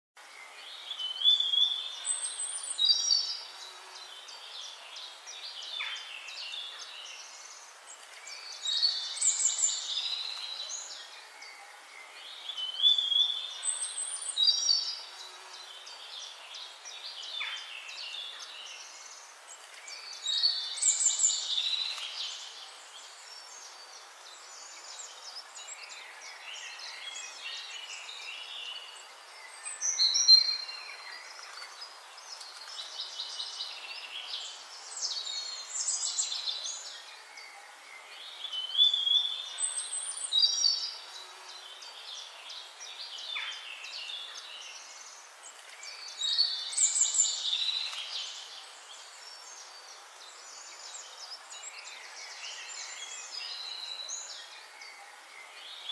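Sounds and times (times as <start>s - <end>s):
faint outdoor hiss: 0.2s - 55.9s
small birds chirping: 0.2s - 55.9s.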